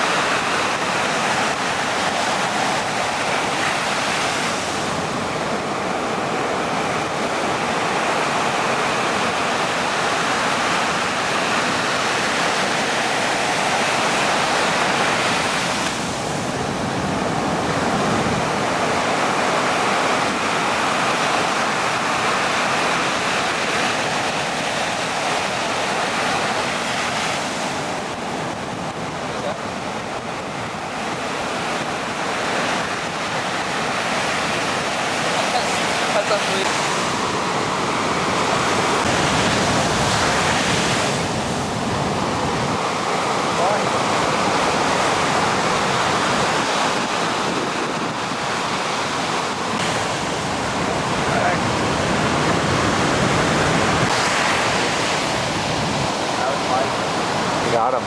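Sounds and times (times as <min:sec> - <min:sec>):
wind on microphone: 0:00.0 - 0:57.8.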